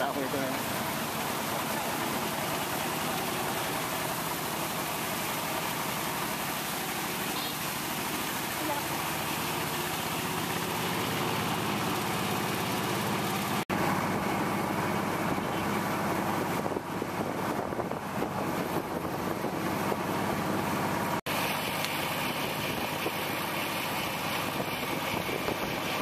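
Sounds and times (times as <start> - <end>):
outdoor noise: 0.0 - 26.0
vehicle engines idling: 0.0 - 26.0.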